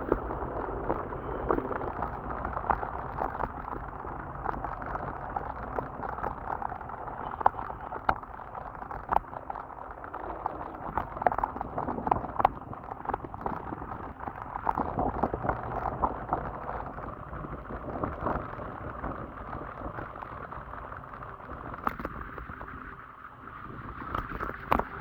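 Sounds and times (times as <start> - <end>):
sharp clicks and rattles: 0.0 - 22.8
scooter rumbling on wet surface: 0.0 - 25.0.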